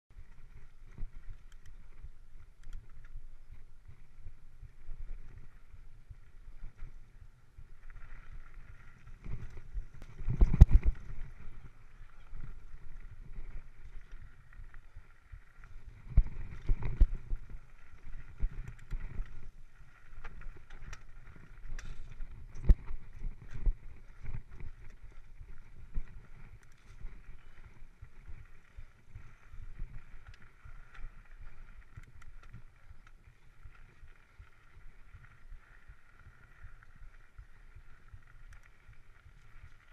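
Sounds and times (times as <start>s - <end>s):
tyre rumble and wind on microphone: 0.1s - 39.9s
bike knocking and rattling: 0.2s - 39.9s.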